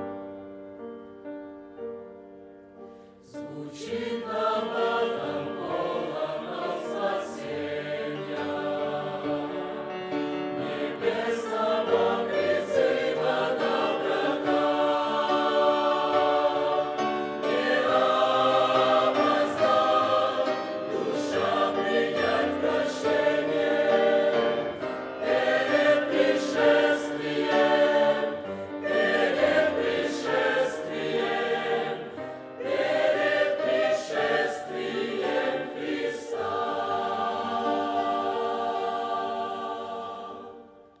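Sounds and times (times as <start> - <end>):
choir singing a hymn: 3.0 - 41.0.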